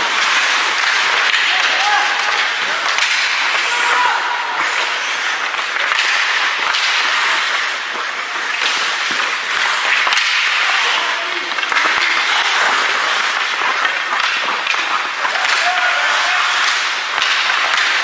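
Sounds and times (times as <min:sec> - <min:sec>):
hockey sticks clacking: 0:00.0 - 0:18.0
skates scraping ice: 0:00.0 - 0:18.0.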